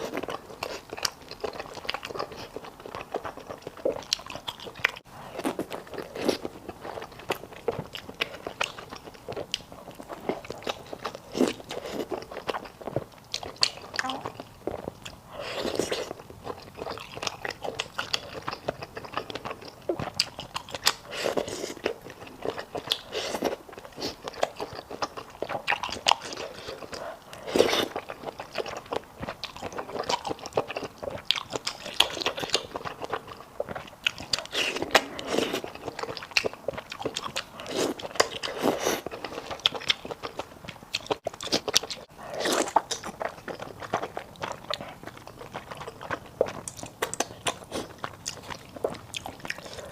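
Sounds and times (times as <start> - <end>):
close-miked chewing and crunching: 0.0 - 49.9.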